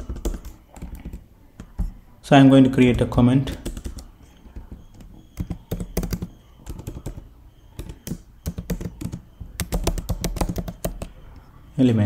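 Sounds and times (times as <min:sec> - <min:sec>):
typing on keyboard: 0:00.0 - 0:01.9, 0:02.8 - 0:11.4.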